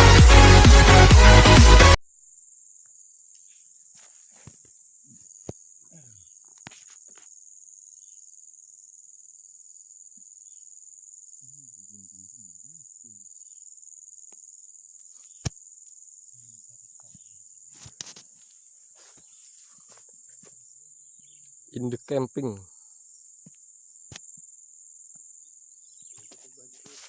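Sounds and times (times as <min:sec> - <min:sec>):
crickets chirping: 0:02.2 - 0:27.0.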